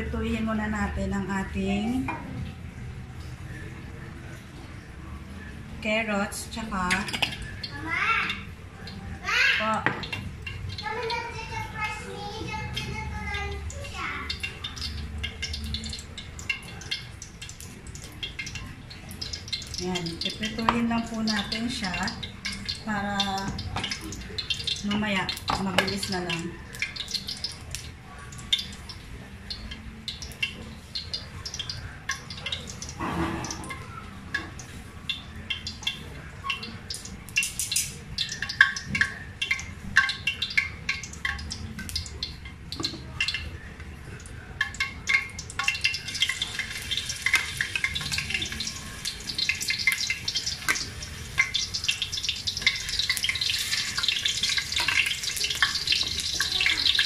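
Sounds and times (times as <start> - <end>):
vegetables frying in hot oil: 6.0 - 57.0.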